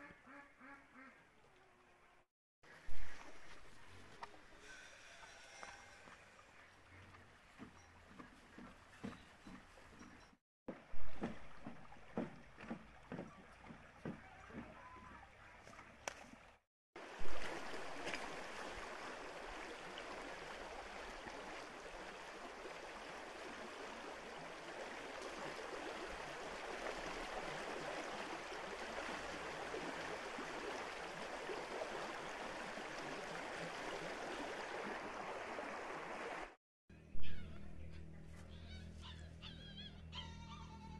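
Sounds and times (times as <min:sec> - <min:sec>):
stream running over stones: 0:02.7 - 0:09.9, 0:10.7 - 0:36.6.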